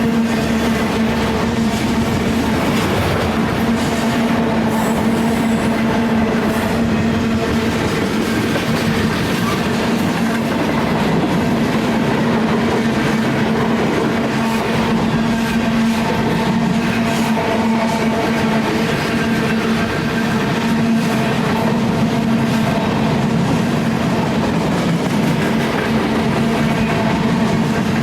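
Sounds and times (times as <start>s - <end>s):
freight train running noise: 0.0s - 28.0s
wheels clattering on rails: 0.0s - 28.0s.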